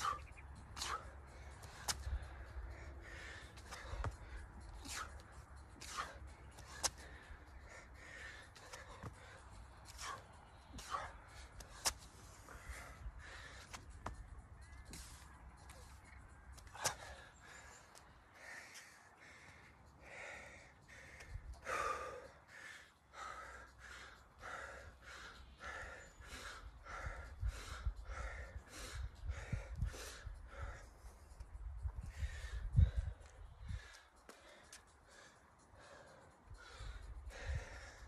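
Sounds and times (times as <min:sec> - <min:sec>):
man breathing hard: 0:00.0 - 0:38.0.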